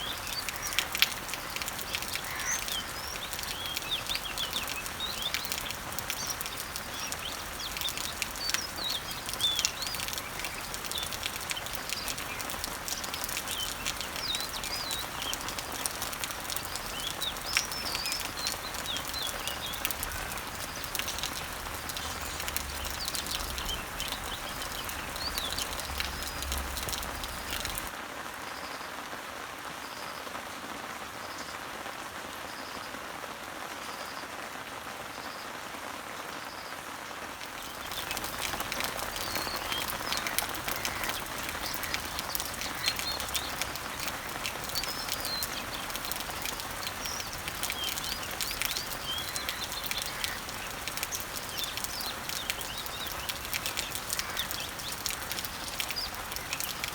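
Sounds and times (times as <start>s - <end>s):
birds chirping: 0.0s - 28.0s, 37.4s - 56.9s
rain pattering on leaves: 0.0s - 56.9s.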